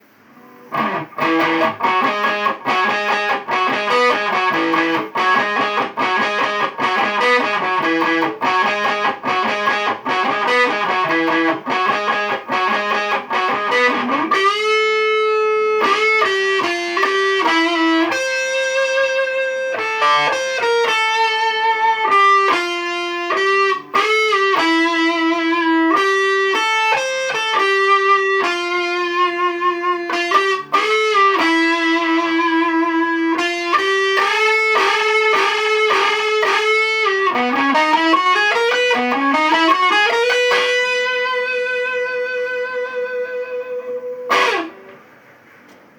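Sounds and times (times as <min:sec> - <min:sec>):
electric guitar playing: 0:00.0 - 0:45.9.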